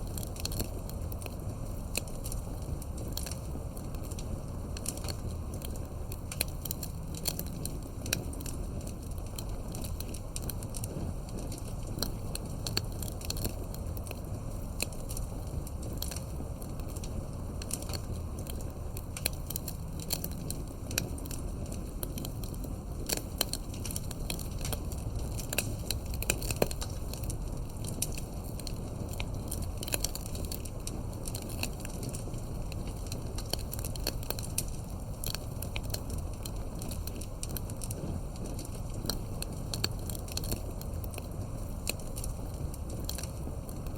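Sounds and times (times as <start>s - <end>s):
campfire flames rumbling: 0.0s - 43.9s
fire crackles and pops: 0.0s - 43.9s.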